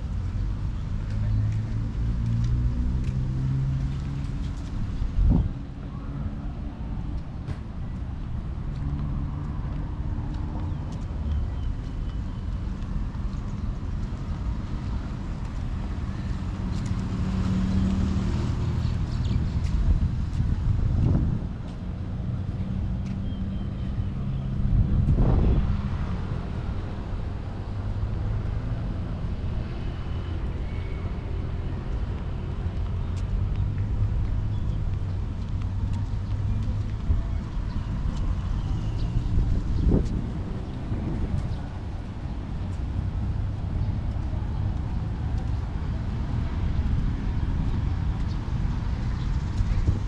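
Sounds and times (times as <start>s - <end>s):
traffic engine hum: 0.0s - 50.0s.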